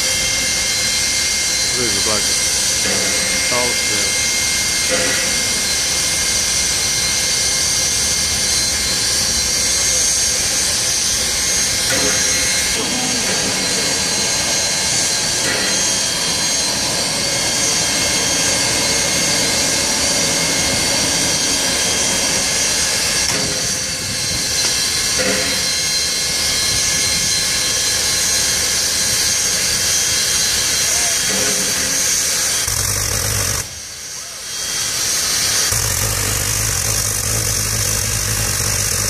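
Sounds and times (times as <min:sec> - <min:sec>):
steam hissing from locomotive: 0:00.0 - 0:39.0.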